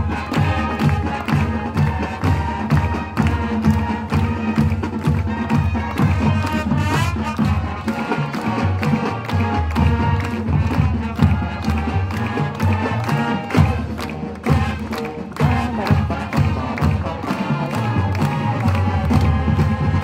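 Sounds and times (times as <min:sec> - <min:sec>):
saxophones and brass: 0:00.0 - 0:20.0.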